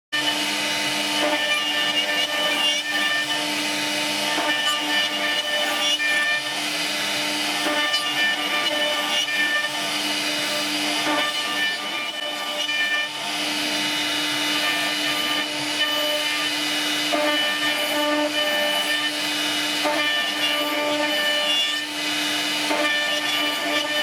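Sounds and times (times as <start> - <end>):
router spindle whine: 0.2 - 24.0
wood cutting hiss: 0.2 - 24.0.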